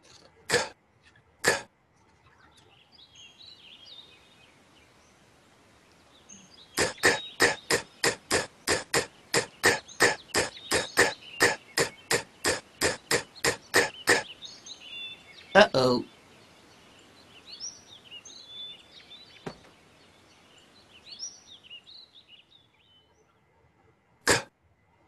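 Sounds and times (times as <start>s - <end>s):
faint chirping: 2.0s - 25.0s.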